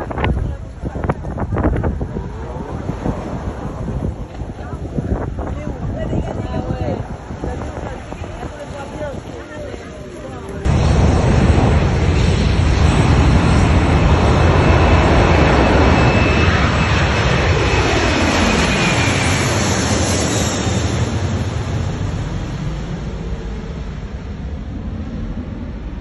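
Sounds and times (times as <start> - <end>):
jet airliner roaring overhead: 0.0 - 26.0.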